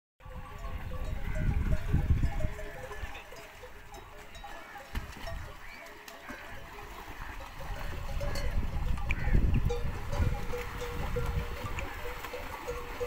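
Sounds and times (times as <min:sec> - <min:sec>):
camels calling: 0:00.2 - 0:13.0.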